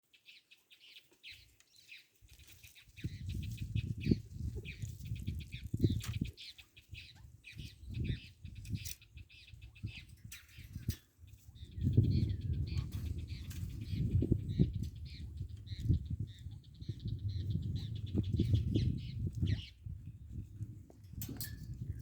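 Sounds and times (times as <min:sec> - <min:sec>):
small birds chirping: 0:00.0 - 0:20.6.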